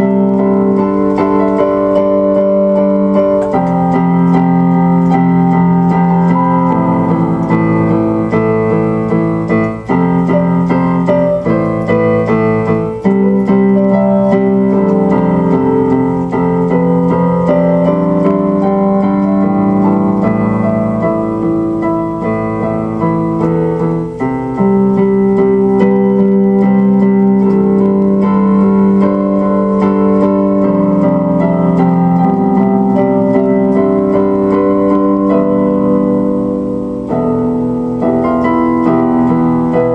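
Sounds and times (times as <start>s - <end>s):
slow electronic keyboard piece: 0.0s - 39.9s.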